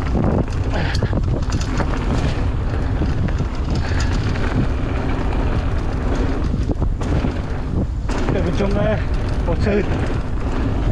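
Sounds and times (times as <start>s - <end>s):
bike clicks and rattles: 0.0s - 10.9s
bike tyres rolling on dirt: 0.0s - 10.9s
wind buffeting microphone: 0.0s - 10.9s.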